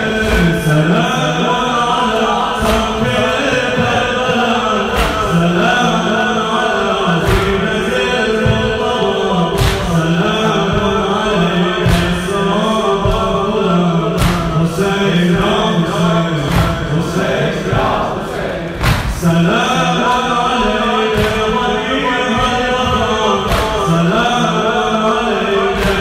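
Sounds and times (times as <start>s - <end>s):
congregation singing along: 0.0s - 26.0s
man chanting a lament: 0.0s - 26.0s
unison chest-beating strikes: 0.0s - 26.0s.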